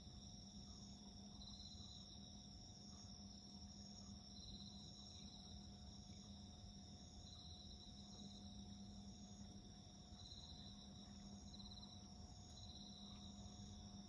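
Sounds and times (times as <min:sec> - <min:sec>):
crickets trilling: 0:00.1 - 0:14.0.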